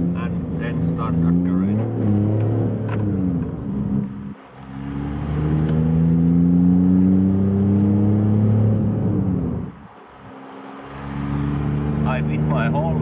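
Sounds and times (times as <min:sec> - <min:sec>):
diesel engine accelerating: 0:00.0 - 0:13.0.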